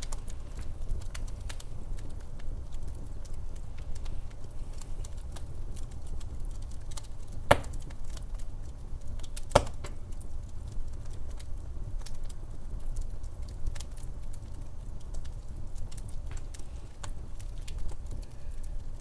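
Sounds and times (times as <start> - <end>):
sharp fire pops: 0.0 - 19.0
wood fire crackling in fireplace: 0.0 - 19.0.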